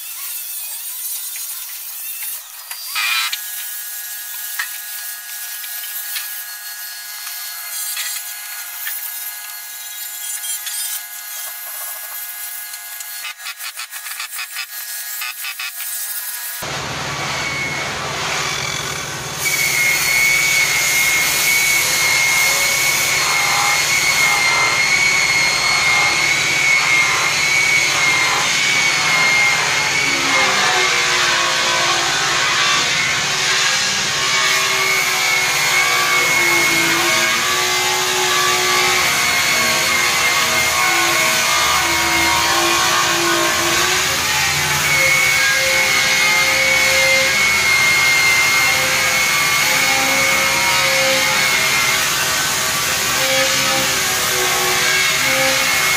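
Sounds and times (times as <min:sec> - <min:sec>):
electric polisher whining: 0:00.0 - 0:16.7, 0:18.4 - 0:55.9.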